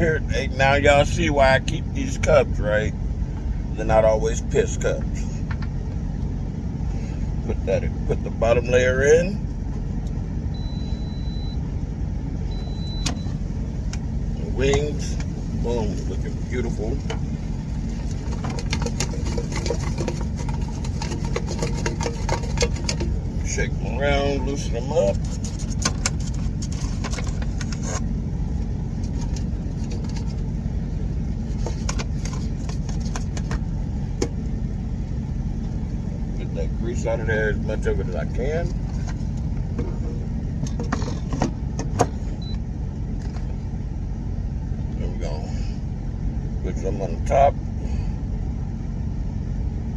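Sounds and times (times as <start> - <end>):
truck engine idling: 0.0 - 49.9.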